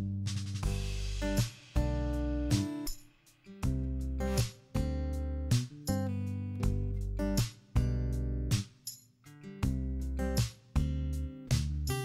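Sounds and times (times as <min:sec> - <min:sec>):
guitar playing chords: 0:00.8 - 0:02.9, 0:03.5 - 0:08.6, 0:09.3 - 0:12.0.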